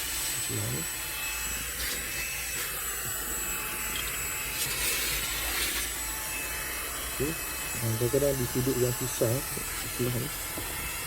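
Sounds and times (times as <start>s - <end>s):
handheld vacuum running: 0.0s - 11.0s.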